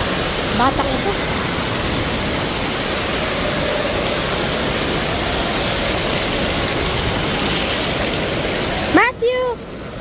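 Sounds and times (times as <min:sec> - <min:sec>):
falling and running water: 0:00.0 - 0:10.0.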